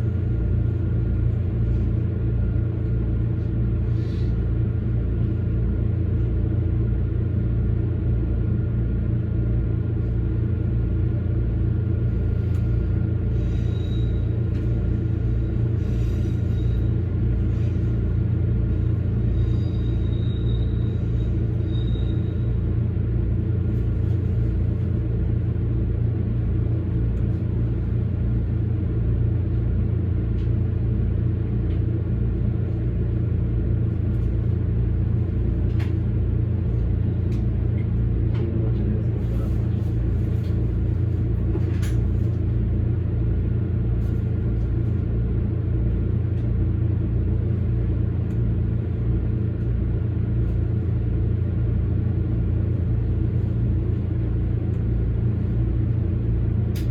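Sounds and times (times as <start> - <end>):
electric train rumbling on rails: 0.0 - 56.9.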